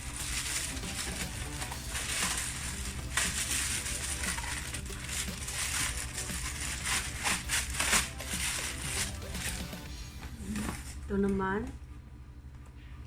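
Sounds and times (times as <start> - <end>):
packaging rustling and crackling: 0.0 - 11.0
steady low hum: 0.0 - 13.0.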